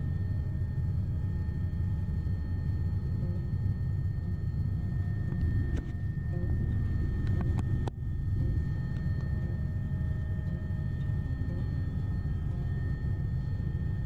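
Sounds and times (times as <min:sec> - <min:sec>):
faint high whine: 0:00.0 - 0:14.0
helicopter rotor and turbine rumble: 0:00.0 - 0:14.0.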